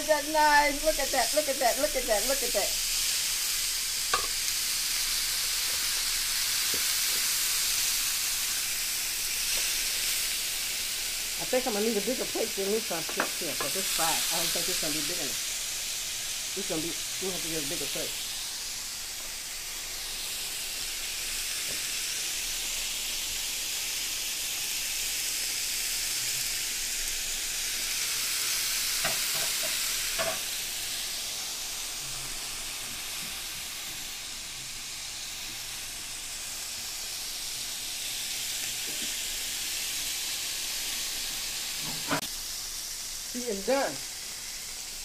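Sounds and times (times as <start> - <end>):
meat sizzling on a grill: 0.0 - 45.0.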